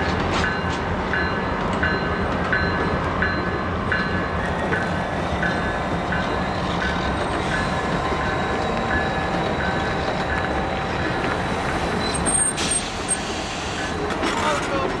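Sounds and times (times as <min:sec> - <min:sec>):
train cars rumbling past: 0:00.0 - 0:15.0.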